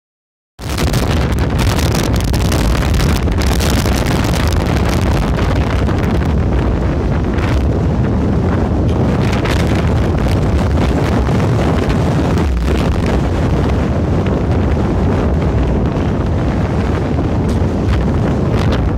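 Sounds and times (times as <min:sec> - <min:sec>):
wind buffeting microphone: 0:00.6 - 0:18.9.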